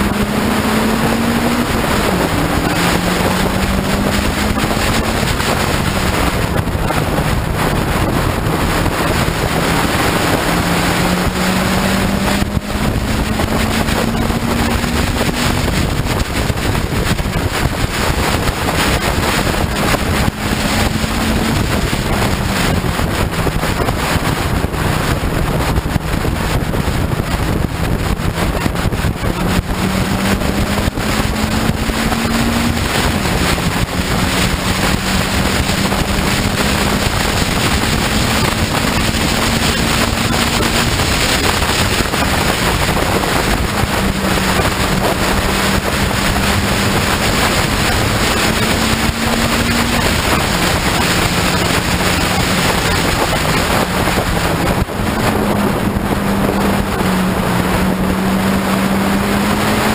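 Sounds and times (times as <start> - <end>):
race car engine accelerating: 0.0 - 59.9
wind buffeting microphone: 0.0 - 59.9.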